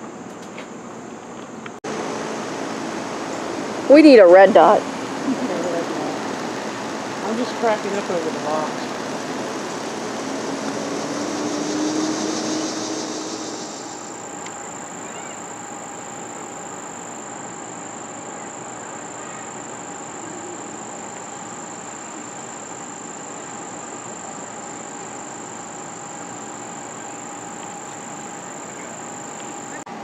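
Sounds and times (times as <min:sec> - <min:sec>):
faint steady hum: 0:01.4 - 0:30.0
even hiss: 0:01.9 - 0:29.8
thin high-pitched whine: 0:02.8 - 0:29.9.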